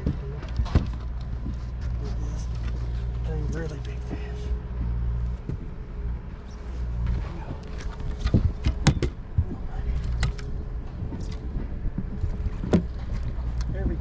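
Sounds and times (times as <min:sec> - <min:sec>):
knocks and clatter on boat: 0:00.0 - 0:14.0
steady low hum: 0:00.0 - 0:14.0.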